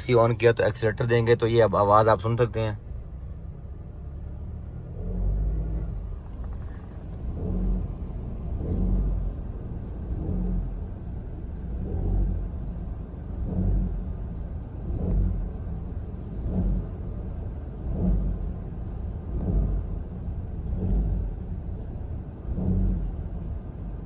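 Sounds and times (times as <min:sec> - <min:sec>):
car engine rumble: 0:00.0 - 0:24.0.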